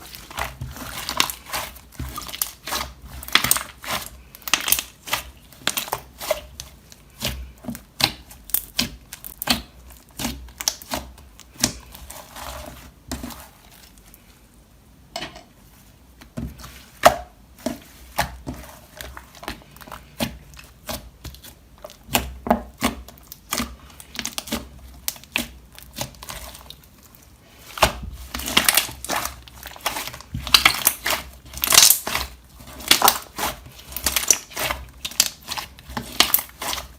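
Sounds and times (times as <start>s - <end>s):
slime squishing with sticky clicks: 0.0s - 12.2s, 16.2s - 36.9s.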